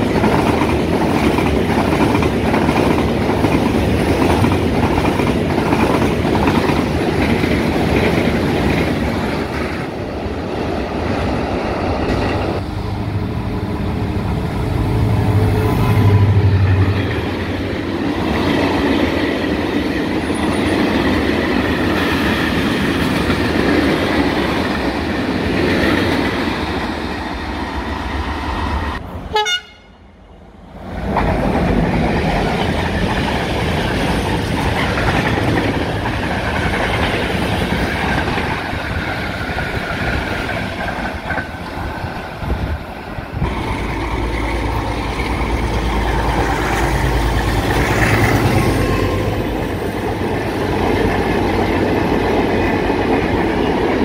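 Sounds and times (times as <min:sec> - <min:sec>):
diesel locomotive engine hum: 0:00.0 - 0:54.0.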